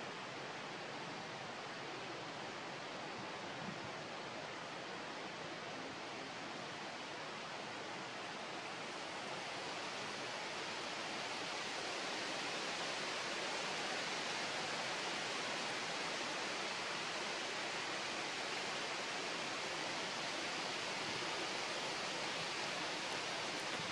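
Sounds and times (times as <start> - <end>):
steady hiss: 0.0 - 23.9.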